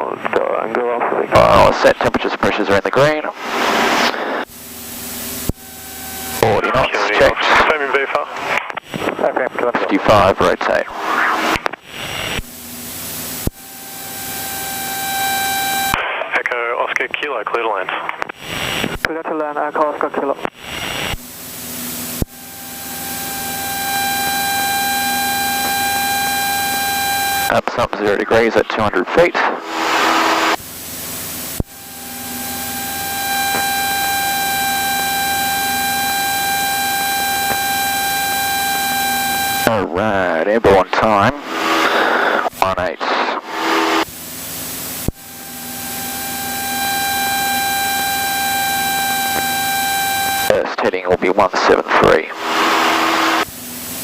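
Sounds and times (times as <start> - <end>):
airplane engine and propeller drone: 0.0 - 54.0
steady whine: 0.0 - 54.0.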